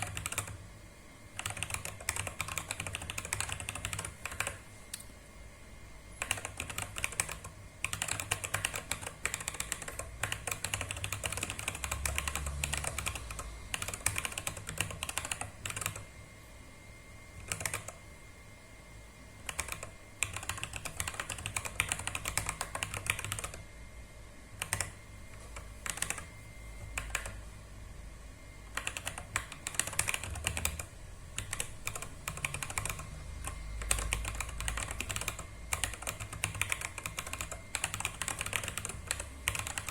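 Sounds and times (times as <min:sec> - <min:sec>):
mechanical keyboard typing: 0:00.0 - 0:00.6, 0:01.4 - 0:04.6, 0:06.2 - 0:16.1, 0:17.4 - 0:18.0, 0:19.5 - 0:23.6, 0:24.6 - 0:27.4, 0:28.7 - 0:39.9.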